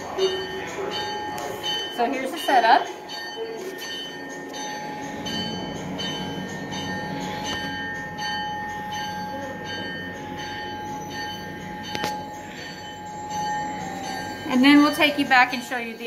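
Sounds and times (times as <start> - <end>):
train rumble and whine: 0.0 - 16.0.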